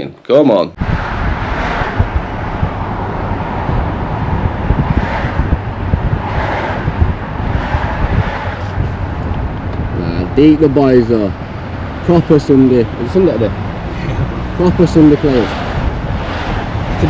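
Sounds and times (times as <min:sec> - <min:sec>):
wind buffeting microphone: 0:00.8 - 0:17.0.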